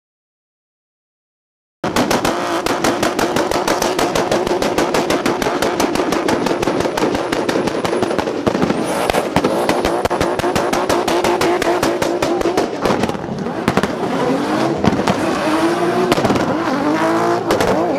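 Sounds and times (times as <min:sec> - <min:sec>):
exhaust bangs and pops: 0:01.8 - 0:17.9
car engine at high revs: 0:01.9 - 0:17.9.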